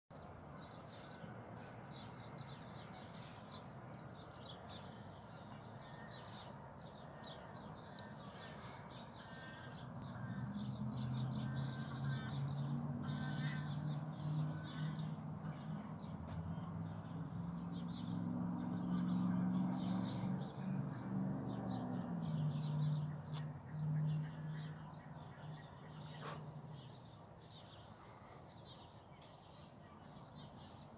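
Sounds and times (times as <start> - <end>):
birds chirping: 1.9 - 30.9.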